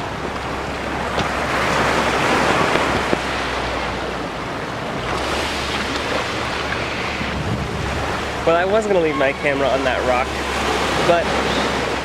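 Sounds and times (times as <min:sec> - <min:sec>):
wind rumble on microphone: 0:00.0 - 0:12.0
surf breaking on beach: 0:00.9 - 0:12.0.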